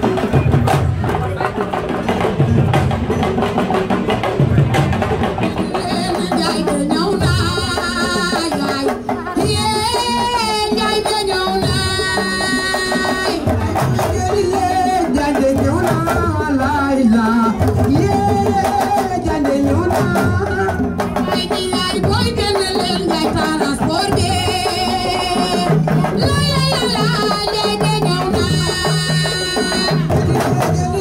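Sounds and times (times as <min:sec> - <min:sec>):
hand drums playing rhythm: 0:00.0 - 0:31.0
person singing into microphone: 0:05.5 - 0:31.0.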